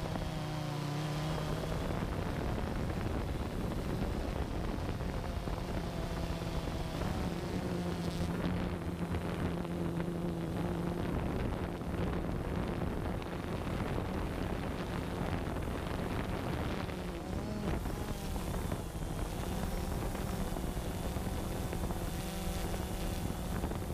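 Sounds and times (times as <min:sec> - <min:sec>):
drone propellers humming: 0:00.0 - 0:23.9
wind buffeting microphone: 0:00.0 - 0:23.9.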